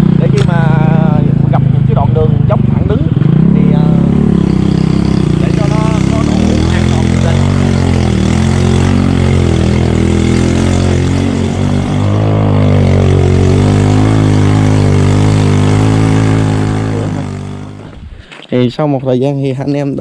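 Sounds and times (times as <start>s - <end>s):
small motorbike engine running: 0.0s - 18.1s.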